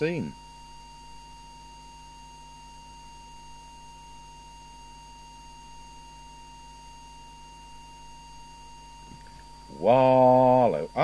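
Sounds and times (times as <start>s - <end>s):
faint mains hum: 0.0s - 11.0s
steady test tone whistle: 0.0s - 11.0s.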